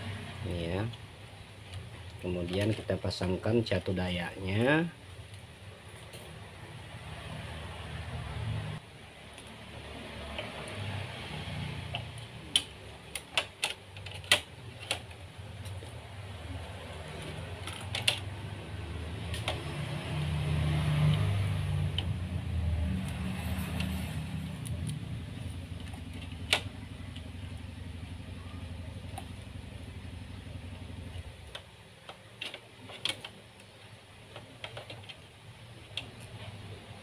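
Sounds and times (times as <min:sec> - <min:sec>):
engine rumble: 0:00.0 - 0:37.0.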